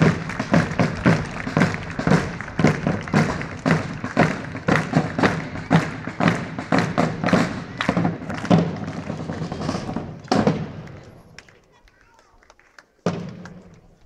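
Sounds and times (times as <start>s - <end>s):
side drums beating marching rhythm: 0.0s - 11.1s, 13.0s - 13.6s.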